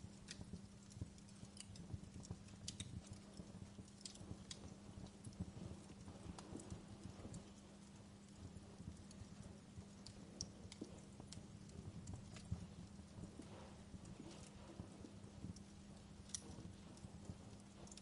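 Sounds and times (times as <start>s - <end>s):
steady low hum: 0.0s - 18.0s
wood fire crackling: 0.0s - 18.0s.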